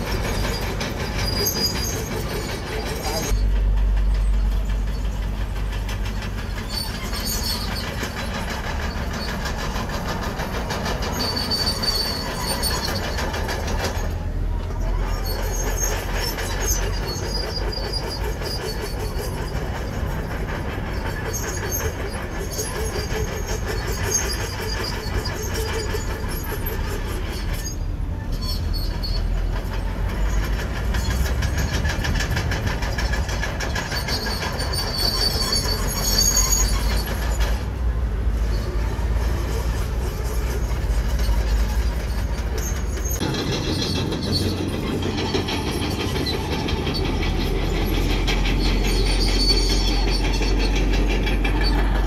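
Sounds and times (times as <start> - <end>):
bulldozer diesel engine running: 0.0 - 52.0
steel tracks squealing and clattering: 0.0 - 52.0.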